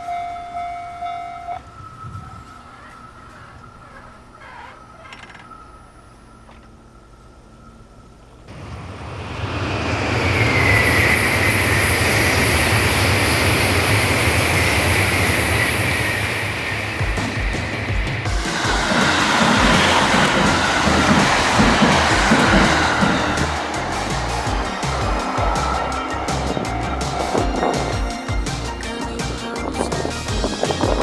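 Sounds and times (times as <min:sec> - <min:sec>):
high whine: 0:00.0 - 0:31.0
train wheel and rail noise: 0:00.0 - 0:31.0.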